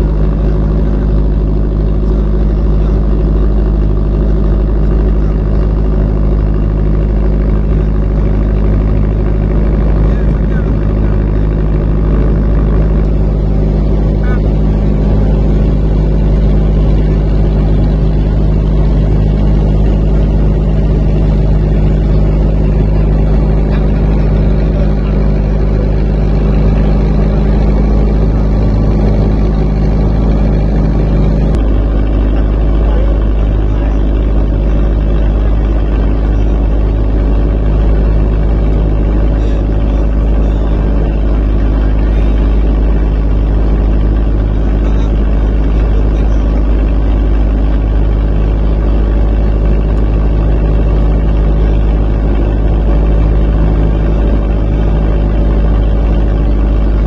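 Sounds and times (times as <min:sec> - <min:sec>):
motorboat engine droning: 0:00.0 - 0:57.0
water rushing along hull: 0:00.0 - 0:57.0.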